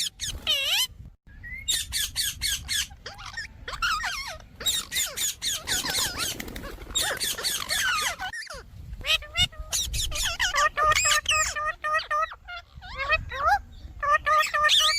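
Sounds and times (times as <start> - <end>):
parakeet squawking: 0.0 - 0.9, 1.7 - 14.9.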